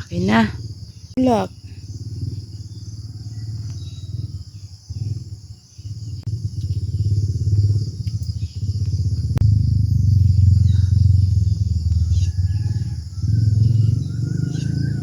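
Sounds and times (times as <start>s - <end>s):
insects chirring: 0.0s - 15.0s
low pulsing rumble: 0.0s - 15.0s.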